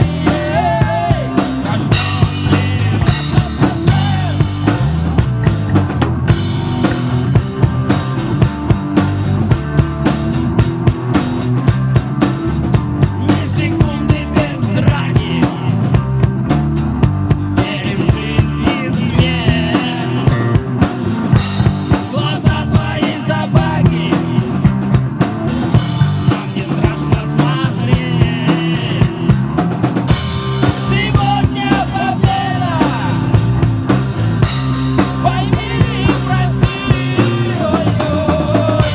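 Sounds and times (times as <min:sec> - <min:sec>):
drum kit beat: 0:00.0 - 0:38.9
electric guitar: 0:00.0 - 0:38.9.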